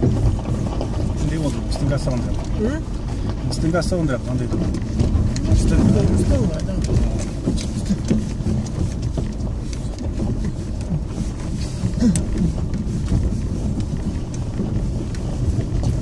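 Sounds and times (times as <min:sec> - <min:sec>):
tyres rumbling on gravel: 0:00.0 - 0:16.0.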